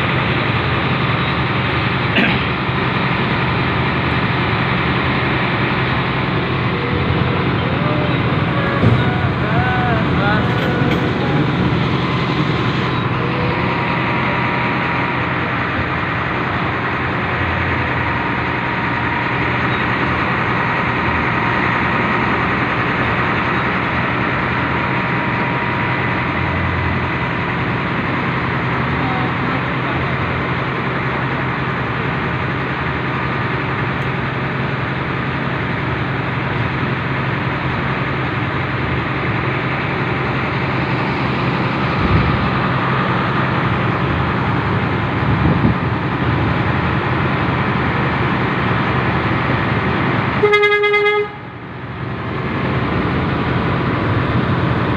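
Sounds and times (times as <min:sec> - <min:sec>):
locomotive engine hum: 0:00.0 - 0:54.9.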